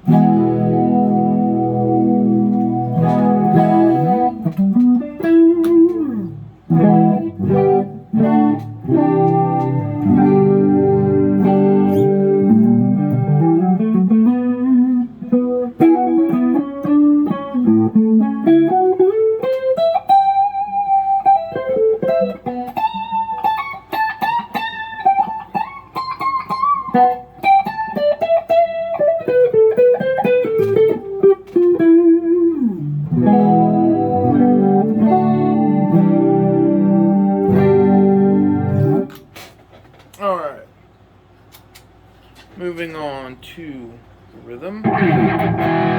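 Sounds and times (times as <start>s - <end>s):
electric guitar single-note melody: 0.0s - 39.2s, 44.8s - 45.9s
electric guitar chords: 0.0s - 39.4s, 44.8s - 45.9s.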